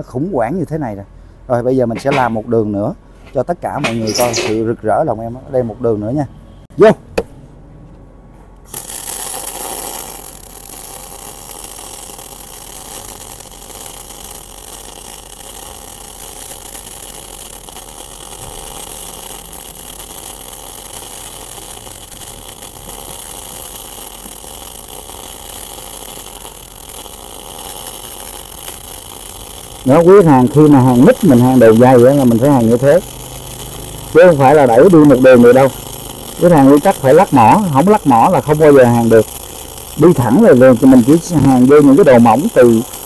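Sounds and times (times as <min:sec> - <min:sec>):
welding arc hissing: 0:01.9 - 0:02.5, 0:03.2 - 0:04.7, 0:08.7 - 0:43.0.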